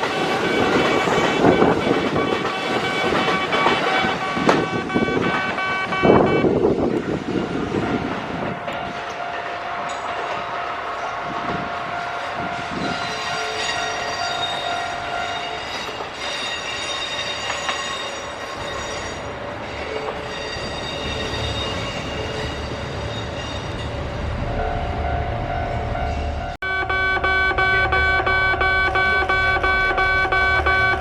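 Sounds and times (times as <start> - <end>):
train cars rumbling: 0.0 - 31.0
train whining tones: 0.0 - 31.0.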